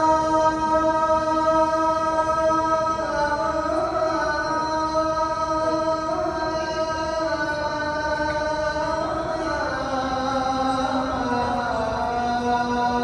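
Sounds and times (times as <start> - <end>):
person chanting in long notes: 0.0 - 13.0.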